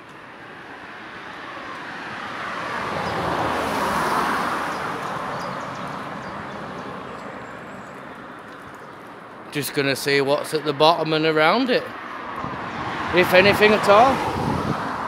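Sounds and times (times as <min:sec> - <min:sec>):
car passing on road: 0:00.0 - 0:15.0.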